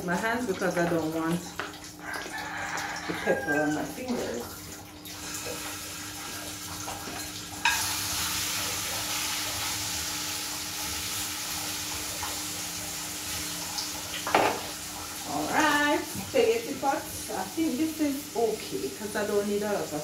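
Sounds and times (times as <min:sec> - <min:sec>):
chicken sizzling in hot oil: 0:00.0 - 0:04.4, 0:05.1 - 0:20.0.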